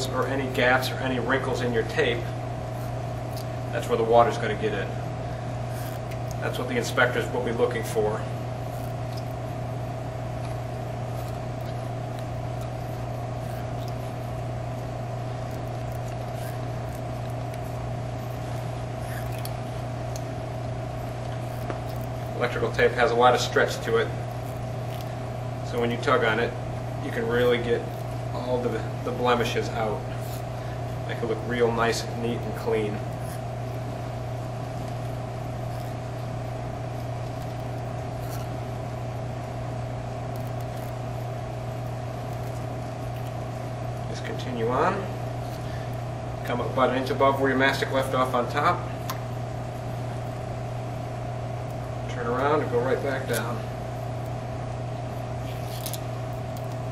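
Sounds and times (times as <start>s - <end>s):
steady low hum with high tone: 0.0s - 56.9s
electrical tape crackling: 0.1s - 56.9s.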